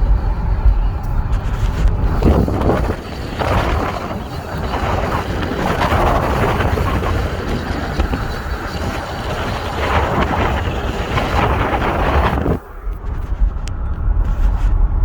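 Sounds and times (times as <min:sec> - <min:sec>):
car running noise: 0:00.0 - 0:15.0
drivetrain noise: 0:00.0 - 0:15.0.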